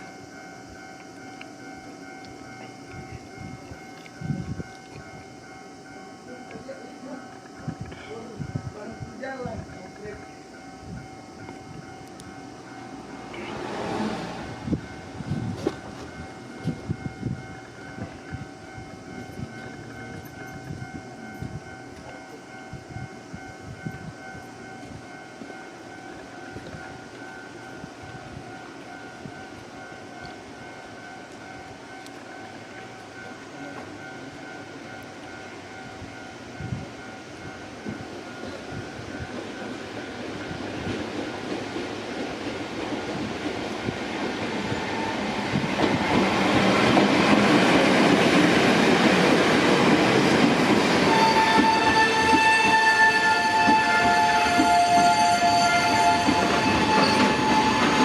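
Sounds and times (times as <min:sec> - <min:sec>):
level crossing warning bell: 0:00.0 - 0:58.0.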